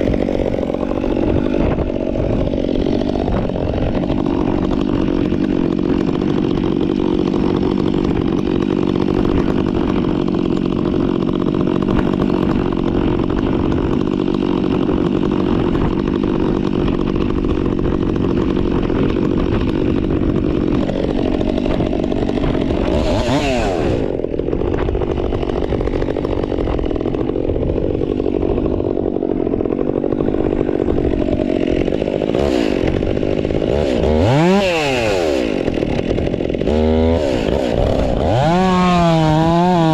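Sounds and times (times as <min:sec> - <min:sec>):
chainsaw running: 0:00.0 - 0:39.9
chainsaw throttle blips: 0:00.0 - 0:39.9.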